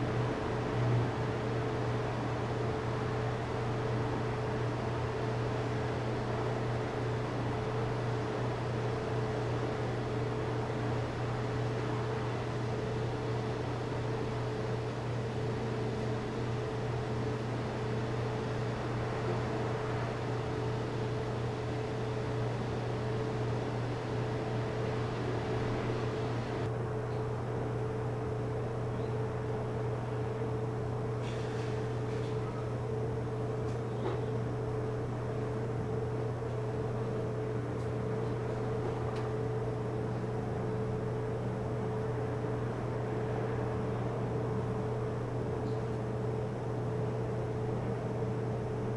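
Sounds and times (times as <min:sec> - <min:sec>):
steady machine hum: 0:00.0 - 0:48.9.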